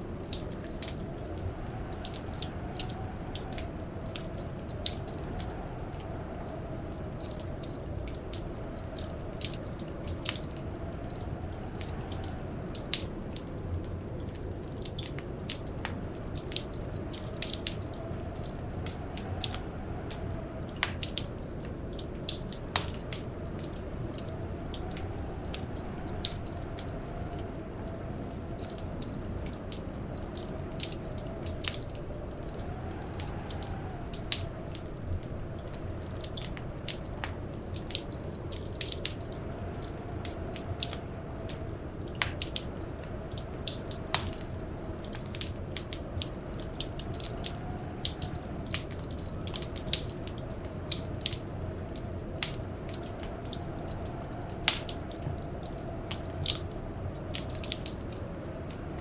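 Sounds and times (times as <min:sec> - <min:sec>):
whistling blizzard wind: 0:00.0 - 0:59.0
wood fire crackling and popping: 0:00.0 - 0:59.0.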